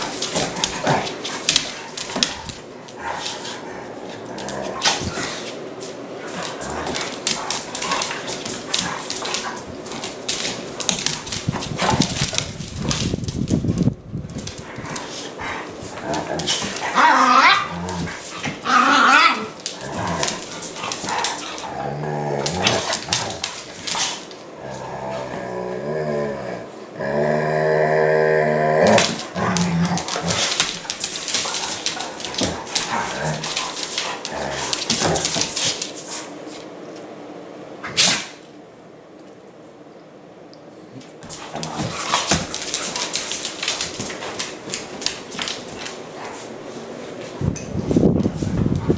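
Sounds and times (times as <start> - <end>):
claws clicking on hardwood floor: 0.0 - 25.4, 28.8 - 37.1, 41.0 - 48.9
dogs play-fighting: 0.0 - 37.2, 40.8 - 48.9.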